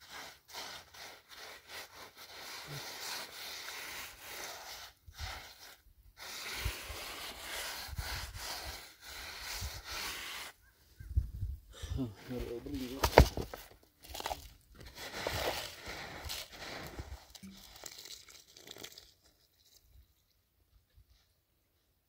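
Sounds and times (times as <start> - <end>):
gloved hands scraping gritty cement: 0.0 - 11.2, 12.2 - 20.0.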